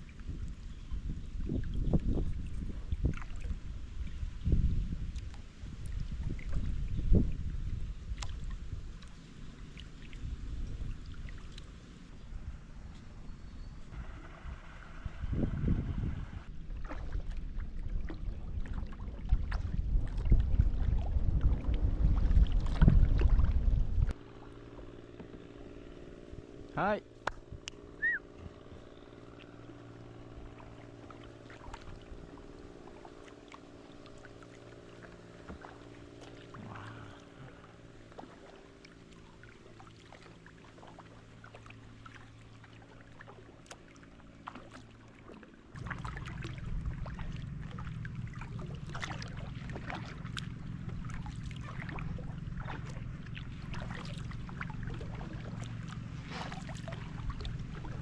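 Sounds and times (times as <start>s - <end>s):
paddle splashing water: 0.0s - 58.0s
steady low hum: 0.0s - 58.0s.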